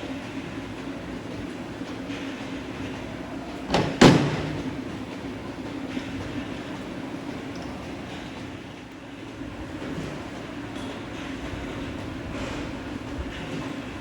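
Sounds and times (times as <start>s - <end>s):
factory machinery hum: 0.0s - 14.0s.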